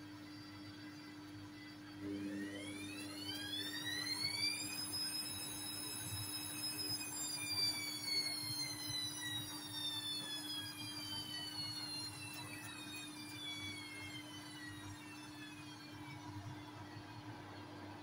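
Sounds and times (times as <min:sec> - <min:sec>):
washing machine motor whining: 0:00.0 - 0:18.0.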